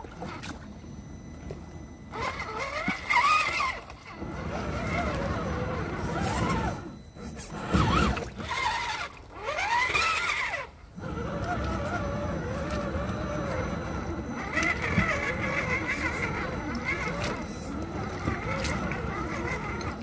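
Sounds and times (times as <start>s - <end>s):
small electric motor whine: 0.0s - 20.0s.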